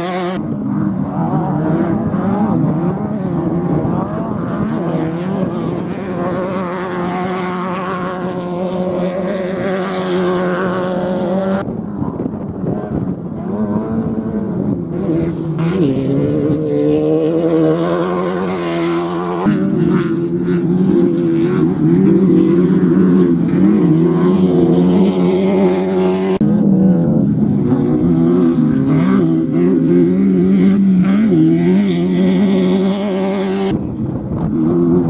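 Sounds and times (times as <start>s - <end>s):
race vehicle engines running loud: 0.0s - 35.0s.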